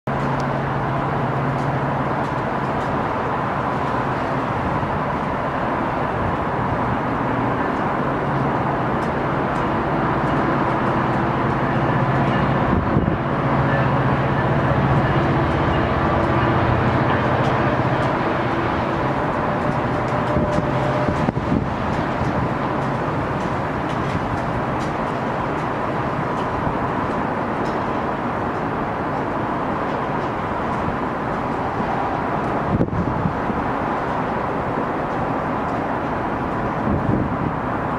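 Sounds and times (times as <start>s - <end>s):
train wheel clicks: 0.1s - 5.4s, 6.7s - 13.2s, 14.5s - 37.2s
diesel locomotive engine drone: 0.1s - 37.9s.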